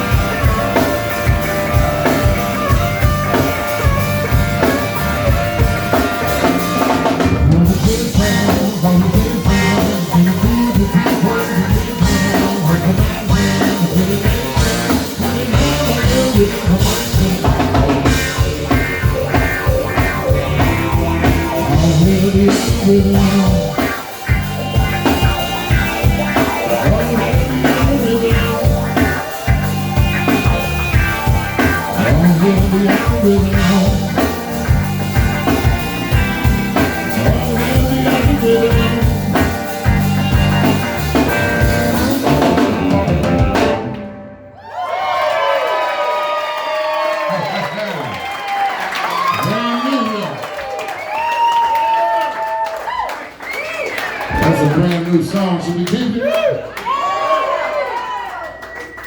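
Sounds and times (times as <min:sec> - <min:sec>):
live band playing: 0:00.0 - 0:45.1, 0:46.9 - 0:56.2.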